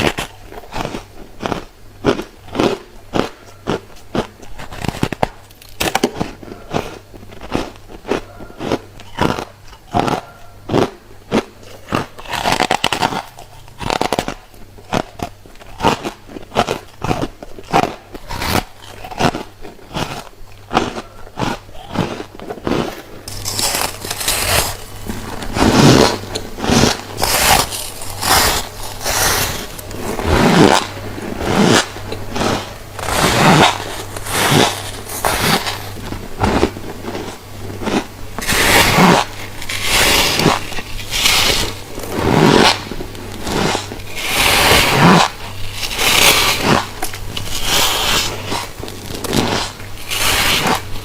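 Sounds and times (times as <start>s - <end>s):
crunchy chewing of frost: 0.0s - 51.0s
steady low hum: 0.0s - 51.0s.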